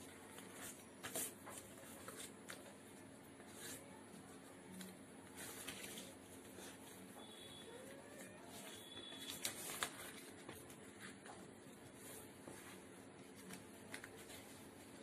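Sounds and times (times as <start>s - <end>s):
paper rustling and crinkling: 0.0s - 7.2s, 7.8s - 15.0s.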